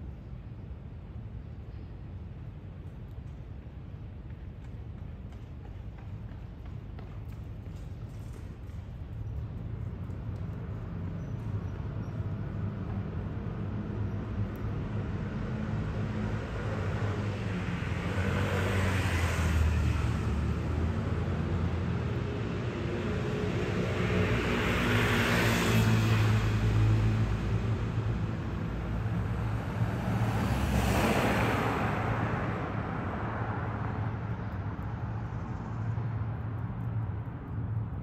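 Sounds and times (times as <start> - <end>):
traffic engine hum: 2.0 - 38.0
vehicles passing: 2.6 - 38.0.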